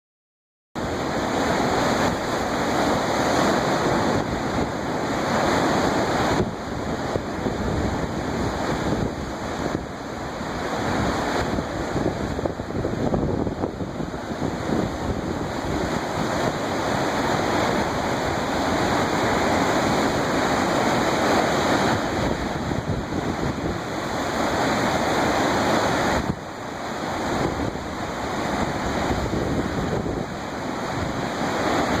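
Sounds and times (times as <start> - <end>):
waves churning: 0.8 - 32.0
wind buffeting microphone: 0.8 - 32.0.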